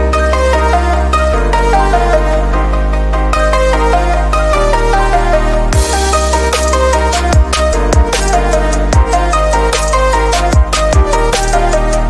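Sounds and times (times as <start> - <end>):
electronic music held notes: 0.0 - 12.0.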